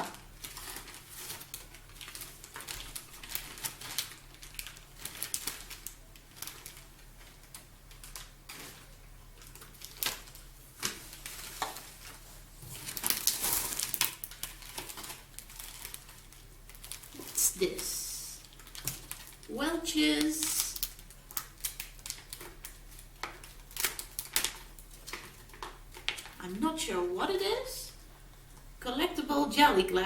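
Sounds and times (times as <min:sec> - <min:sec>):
packaging crackling and rustling: 0:00.0 - 0:26.5.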